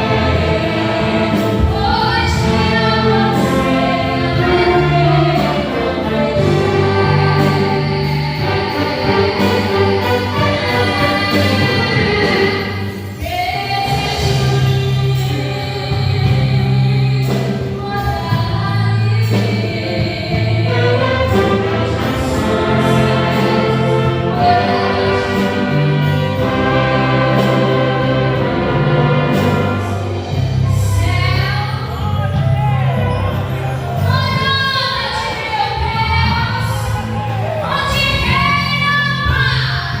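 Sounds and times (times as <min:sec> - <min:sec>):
gospel band playing: 0:00.0 - 0:40.0
voices singing: 0:00.0 - 0:40.0.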